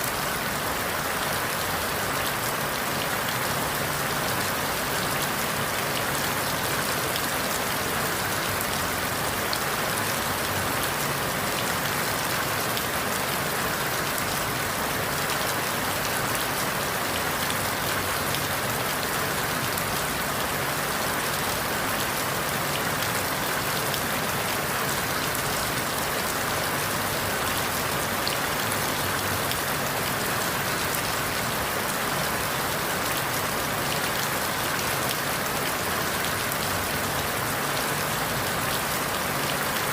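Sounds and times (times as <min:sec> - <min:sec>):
rain falling through leaves: 0:00.0 - 0:39.9.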